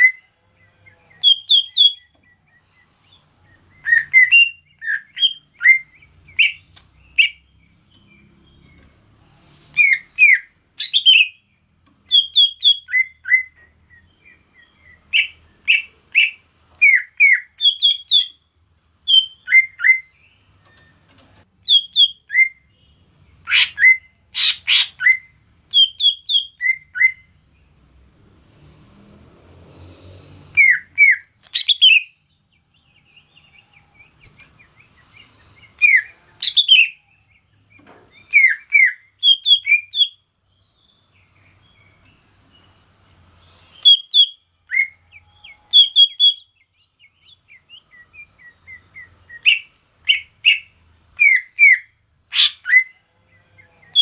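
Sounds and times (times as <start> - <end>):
bird whistling song: 0.0 - 8.8, 9.7 - 18.4, 19.0 - 22.7, 23.4 - 27.4, 30.5 - 32.3, 32.9 - 42.7, 43.4 - 53.0.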